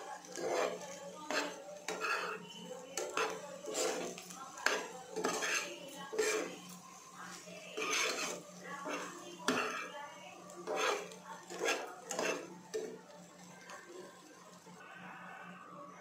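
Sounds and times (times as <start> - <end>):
spoon scraping frying pan: 0.0 - 14.5.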